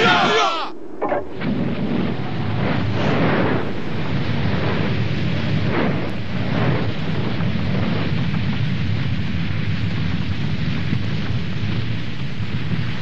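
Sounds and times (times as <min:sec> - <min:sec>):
large fire burning: 0:00.0 - 0:13.0.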